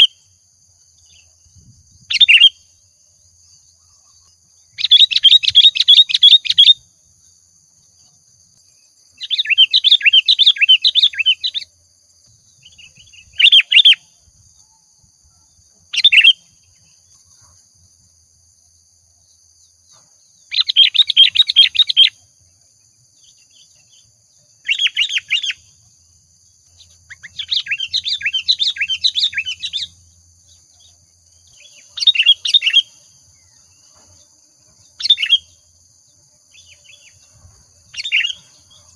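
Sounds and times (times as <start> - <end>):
bird chirping: 0.9 - 17.6, 19.2 - 35.6, 36.5 - 38.9.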